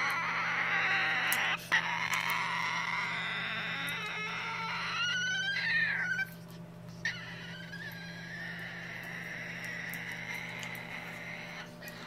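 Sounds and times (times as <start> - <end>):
cockatoo wailing calls: 0.0 - 12.0.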